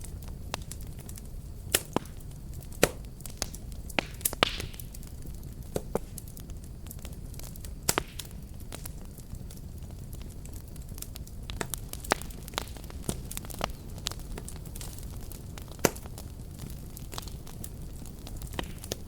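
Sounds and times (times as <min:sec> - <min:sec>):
fire hiss: 0:00.0 - 0:19.0
wood fire crackling: 0:00.0 - 0:19.0.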